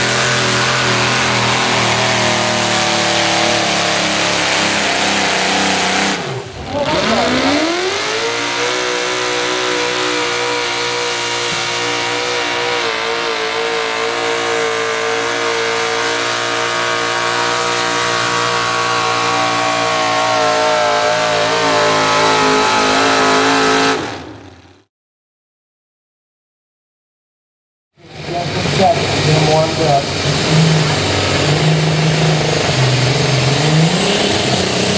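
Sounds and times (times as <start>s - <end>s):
pickup engine at full throttle: 0.0s - 24.9s, 28.0s - 34.9s.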